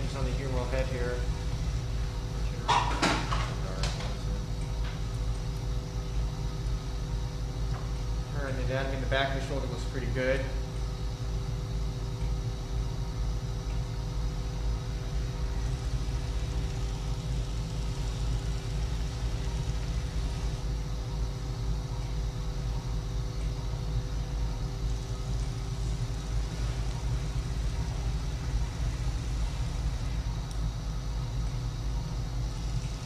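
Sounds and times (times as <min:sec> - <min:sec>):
equipment low rumble and hum: 0:00.0 - 0:33.0.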